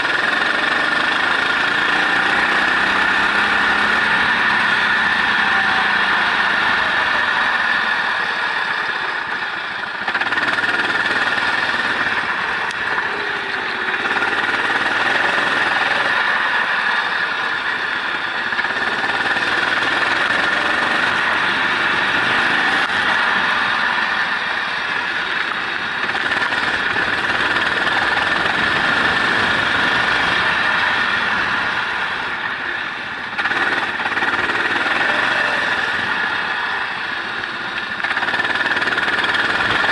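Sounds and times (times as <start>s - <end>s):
racing engine at high revs: 0.0s - 39.9s.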